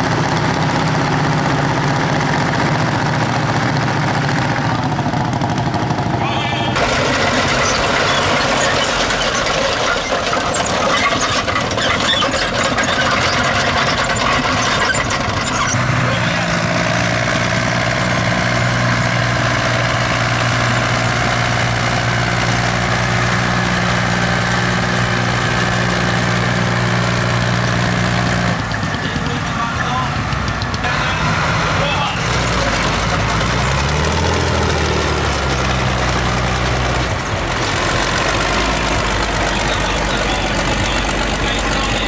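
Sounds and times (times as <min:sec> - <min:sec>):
old tractor engines running: 0:00.0 - 0:42.0.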